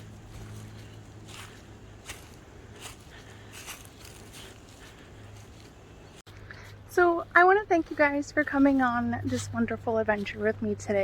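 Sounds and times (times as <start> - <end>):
crunching footsteps on trail: 0.0 - 11.0.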